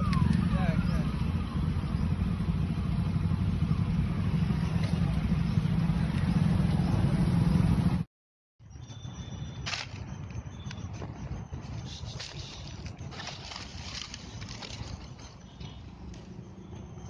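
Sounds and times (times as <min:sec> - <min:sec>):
vehicle engine droning: 0:00.0 - 0:08.1, 0:10.0 - 0:17.0.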